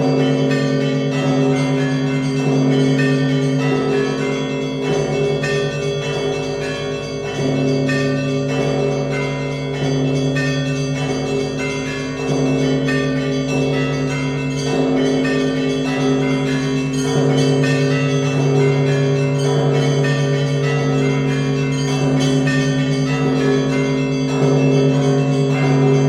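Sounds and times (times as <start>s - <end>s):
deep bells struck and ringing: 0.0s - 26.0s.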